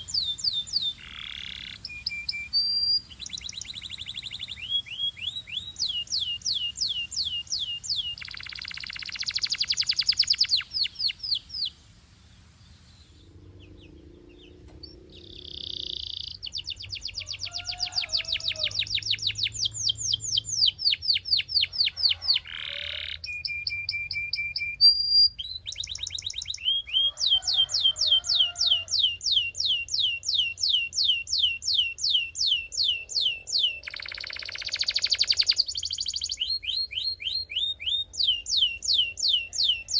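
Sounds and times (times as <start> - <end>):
canary singing trills: 0.0 - 11.8, 12.4 - 39.9.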